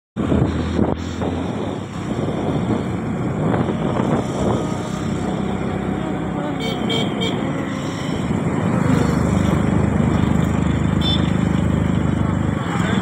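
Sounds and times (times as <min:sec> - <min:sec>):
vehicle running noise: 0:00.2 - 0:13.0.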